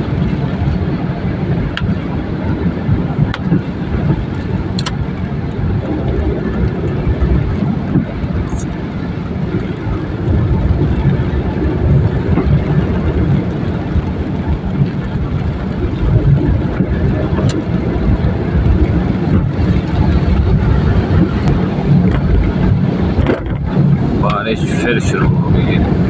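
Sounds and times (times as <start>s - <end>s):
car driving on wet road: 0.0s - 26.0s.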